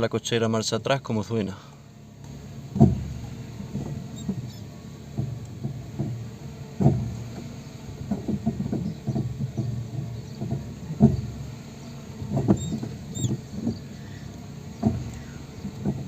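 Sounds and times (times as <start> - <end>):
car engine running: 0.9 - 16.0
suspension knocking and clunking: 1.8 - 16.0.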